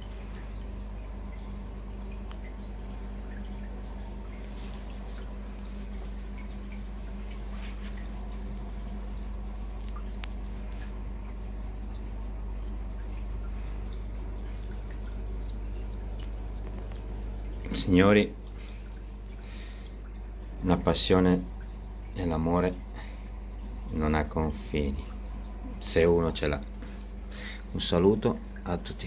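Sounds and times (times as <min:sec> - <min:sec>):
pump humming: 0:00.0 - 0:29.0
water trickling and dripping: 0:00.0 - 0:29.0.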